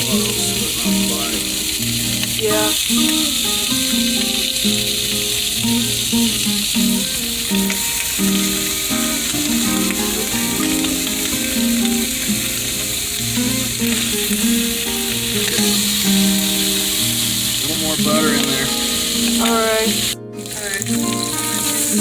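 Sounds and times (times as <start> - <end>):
background music of held notes: 0.0 - 22.0
fish sizzling in a pan: 0.0 - 22.0.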